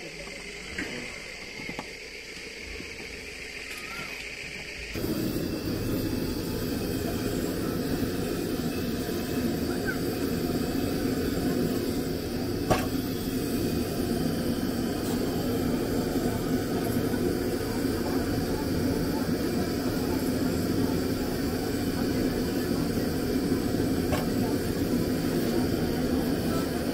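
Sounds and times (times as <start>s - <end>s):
steady rumbling: 4.7s - 26.9s.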